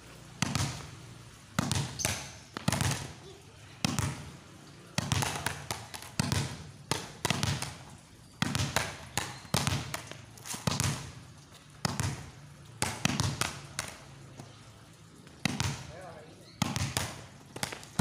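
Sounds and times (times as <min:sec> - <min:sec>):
volleyball bouncing on concrete: 0:00.3 - 0:18.0
rubber ball bouncing on concrete: 0:00.4 - 0:14.6, 0:15.2 - 0:18.0.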